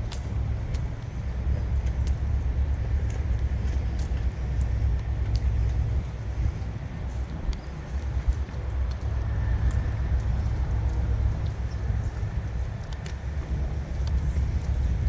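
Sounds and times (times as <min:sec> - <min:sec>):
faint light clicks: 0:00.0 - 0:14.8
large vehicle engine rumbling: 0:00.0 - 0:15.0.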